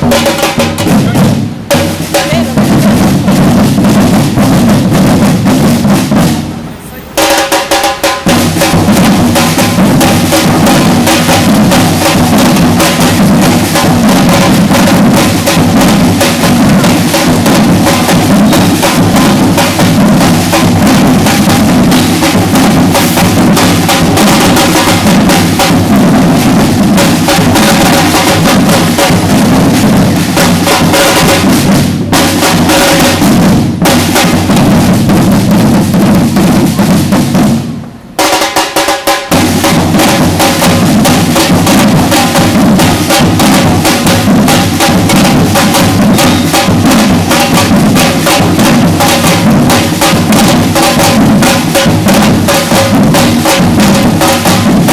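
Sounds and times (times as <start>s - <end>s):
percussion ensemble drumming: 0.0s - 54.9s.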